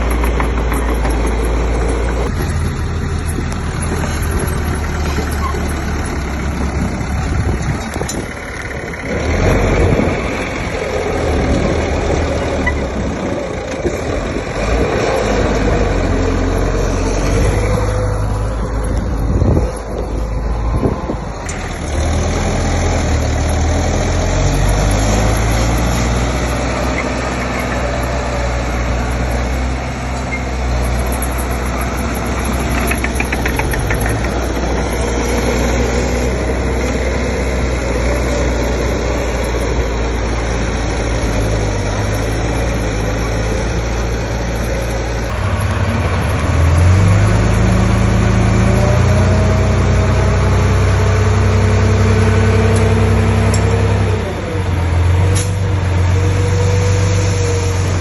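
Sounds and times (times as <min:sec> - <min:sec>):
heavy diesel machinery engine running: 0:00.0 - 0:58.0.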